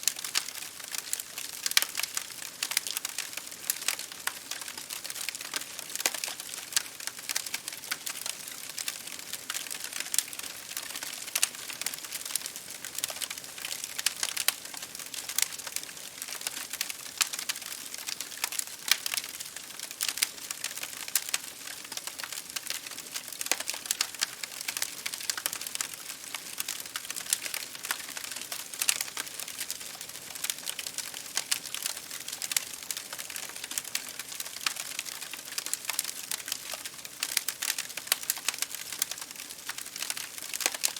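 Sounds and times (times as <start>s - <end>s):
campfire crackling: 0.0s - 40.9s
soft steady hiss: 0.0s - 40.9s.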